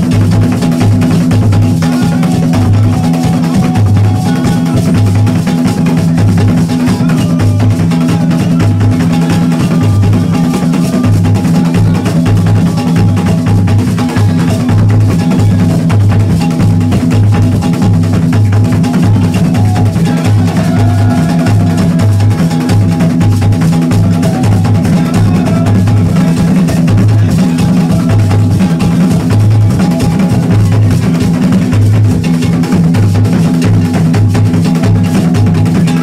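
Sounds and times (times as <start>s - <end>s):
drum ensemble playing fast: 0.0s - 36.0s.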